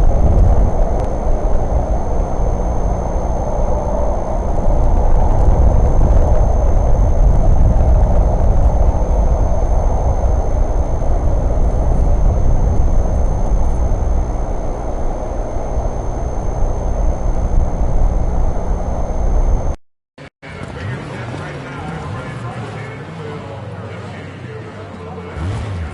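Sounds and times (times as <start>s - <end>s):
vehicle engine rumbling: 0.0s - 19.8s, 20.4s - 25.9s.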